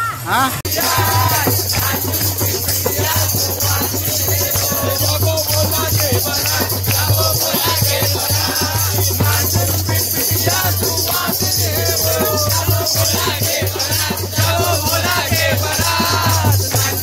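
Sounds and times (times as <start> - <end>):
rhythmic percussion: 0.0 - 17.0
devotional singing: 0.3 - 17.0
shaker rattle: 0.7 - 17.0.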